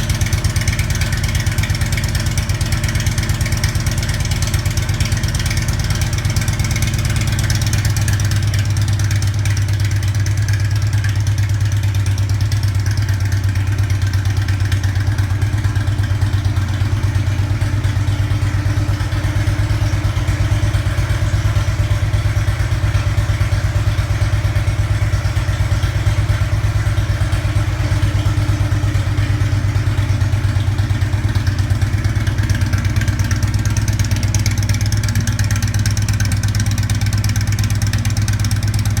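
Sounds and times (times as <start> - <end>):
motorcycle engine idling: 0.0 - 39.0.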